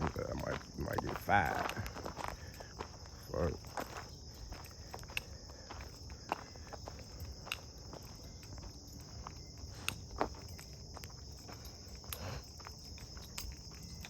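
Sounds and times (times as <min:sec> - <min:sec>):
footsteps on a trail: 0:00.0 - 0:14.0
high-pitched insect chorus: 0:00.0 - 0:14.0.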